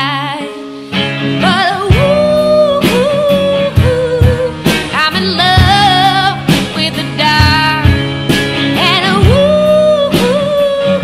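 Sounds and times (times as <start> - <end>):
electric guitar: 0.0 - 11.0
woman singing with vibrato: 0.0 - 11.0.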